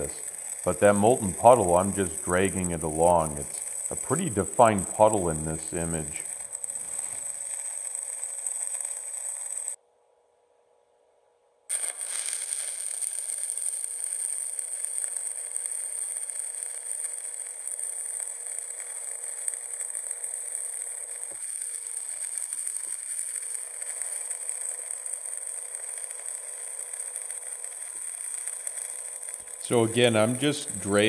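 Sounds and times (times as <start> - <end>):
welding arc crackling hiss: 0.0 - 9.8, 11.7 - 31.0.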